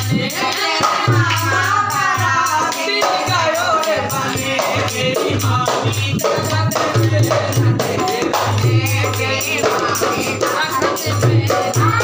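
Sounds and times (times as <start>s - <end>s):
hand drum beat: 0.0s - 12.0s
voices singing: 0.0s - 12.0s.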